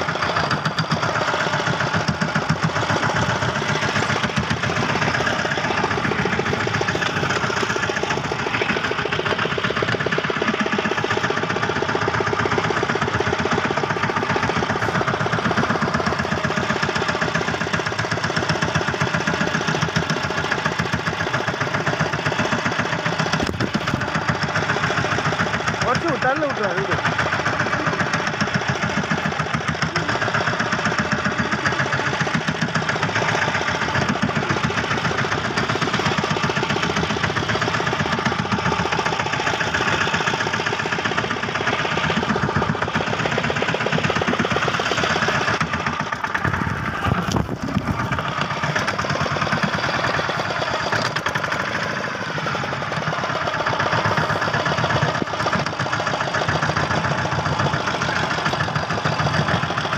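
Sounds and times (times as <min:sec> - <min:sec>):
boat engine chugging: 0:00.0 - 0:59.9.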